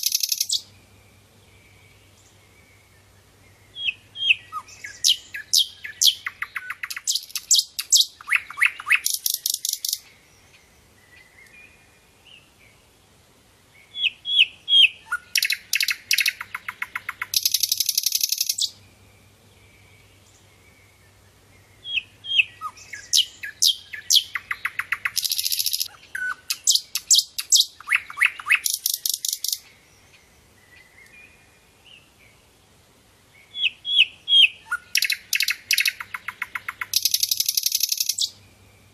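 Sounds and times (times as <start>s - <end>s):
bird singing chips and trills: 0.0s - 11.8s, 13.8s - 31.4s, 33.4s - 38.9s.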